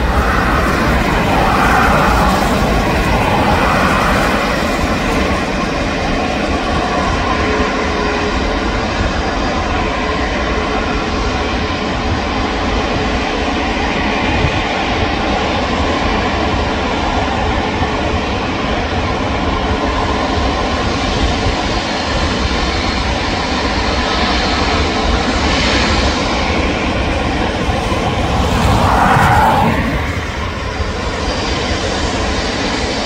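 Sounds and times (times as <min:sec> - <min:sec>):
jet engines running loudly: 0:00.0 - 0:33.0.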